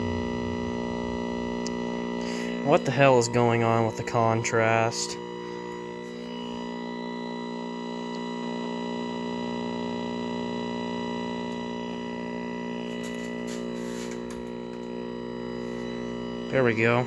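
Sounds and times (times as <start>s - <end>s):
television buzzing hum: 0.0s - 17.0s.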